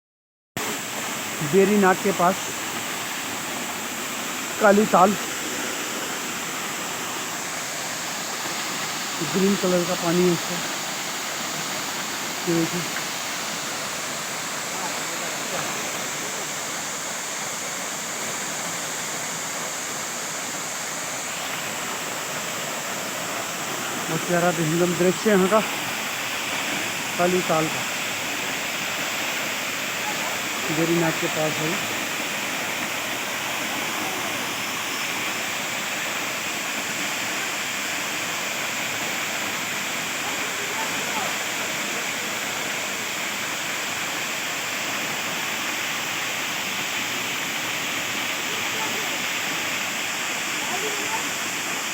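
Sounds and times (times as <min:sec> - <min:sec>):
steady rushing hiss: 0:00.6 - 0:51.9.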